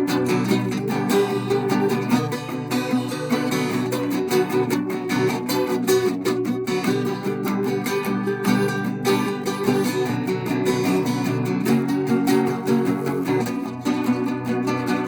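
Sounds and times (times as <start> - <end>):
acoustic guitar strummed and picked: 0.0 - 15.0.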